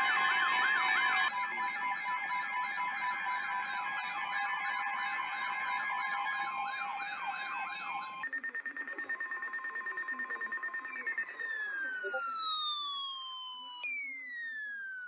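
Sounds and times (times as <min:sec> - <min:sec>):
electronic emergency vehicle sirens: 0:00.0 - 0:15.0.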